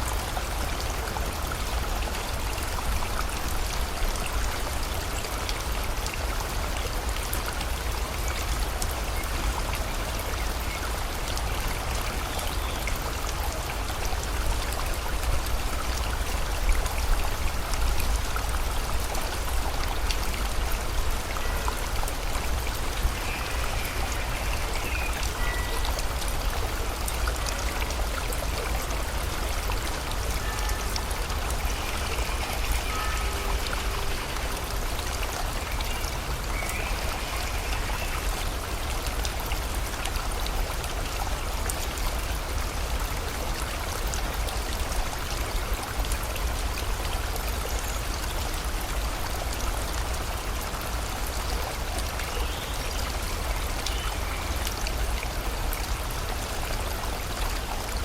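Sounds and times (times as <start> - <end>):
rain pattering: 0.0 - 58.0
river flowing: 0.0 - 58.0.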